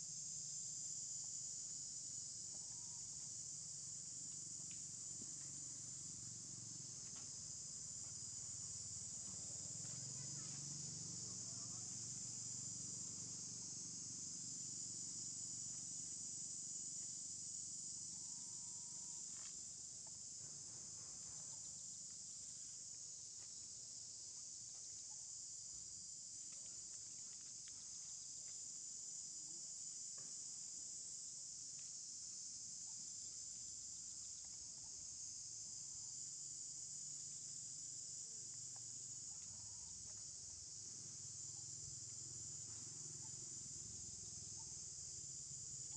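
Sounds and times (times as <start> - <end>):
insect chorus buzzing: 0.0 - 45.9.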